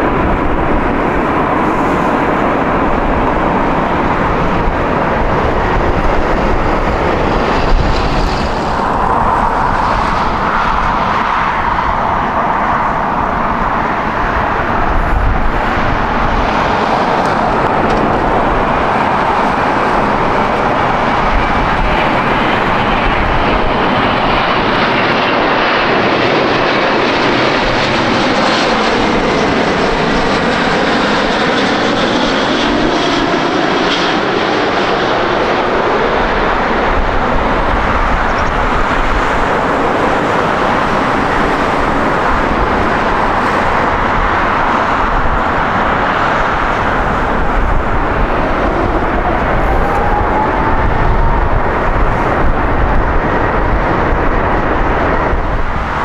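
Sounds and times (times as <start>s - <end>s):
jet airliner engines whining: 0.0s - 56.0s.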